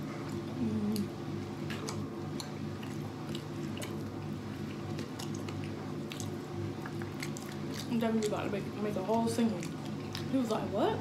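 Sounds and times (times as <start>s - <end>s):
people chewing: 0.0s - 10.8s
steady low hum: 0.0s - 11.0s.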